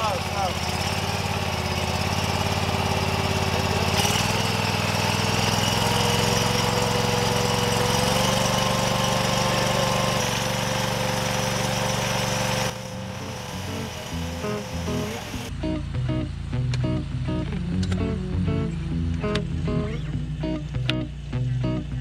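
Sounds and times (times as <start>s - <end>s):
trencher engine running: 0.0s - 22.0s.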